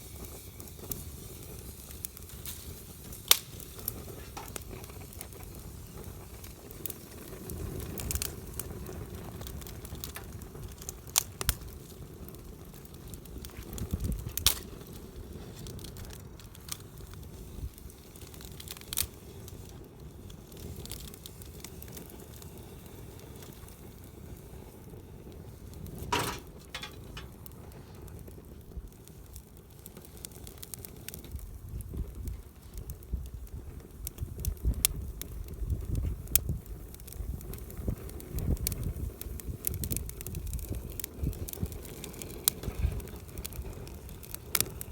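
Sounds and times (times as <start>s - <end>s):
campfire crackling and popping: 0.0s - 44.9s
low steady fire rustle: 0.0s - 44.9s.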